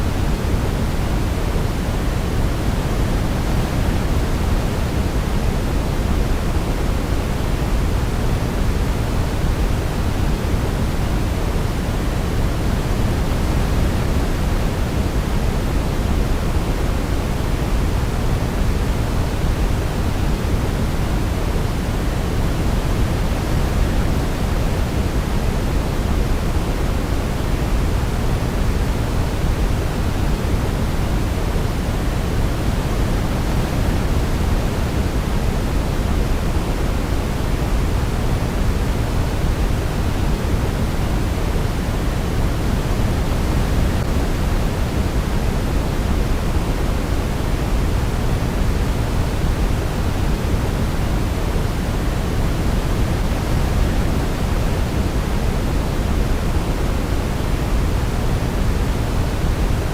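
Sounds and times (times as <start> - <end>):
deep steady hiss: 0.0 - 59.9.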